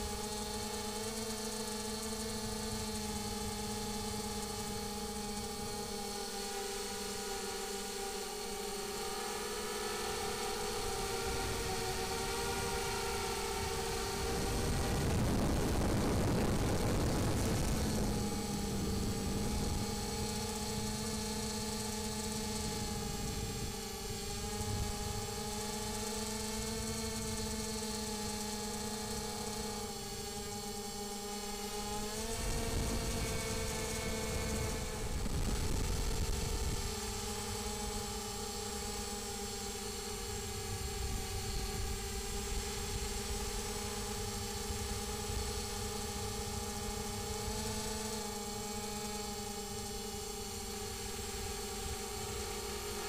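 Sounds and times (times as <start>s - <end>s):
drone motors humming: 0.0s - 53.0s
wind rumble on microphone: 10.1s - 53.0s.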